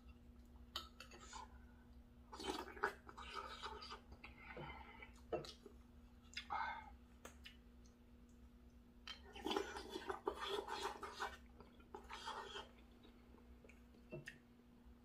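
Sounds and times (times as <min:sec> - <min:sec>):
person chewing food: 0:00.0 - 0:14.6
faint steady hum: 0:00.0 - 0:15.0.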